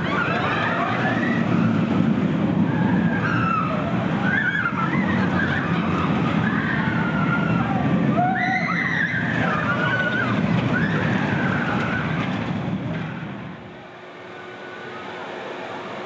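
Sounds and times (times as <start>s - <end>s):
roller coaster rumbling on track: 0.0s - 16.0s.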